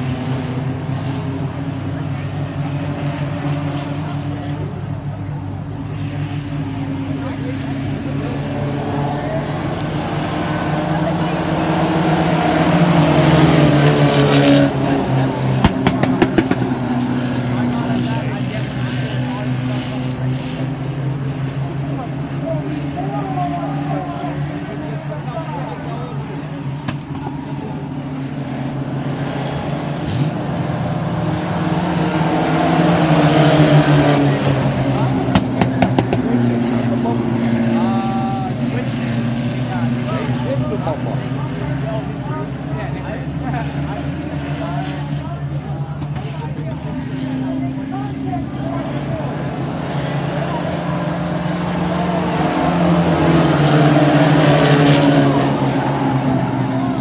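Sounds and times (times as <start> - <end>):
racing truck engines: 0.0 - 57.0.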